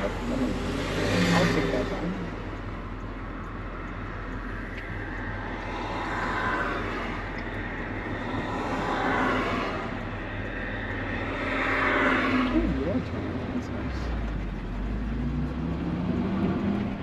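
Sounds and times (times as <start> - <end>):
low engine drone: 0.0 - 17.0
passing traffic: 0.0 - 17.0
road and wind noise: 0.0 - 17.0.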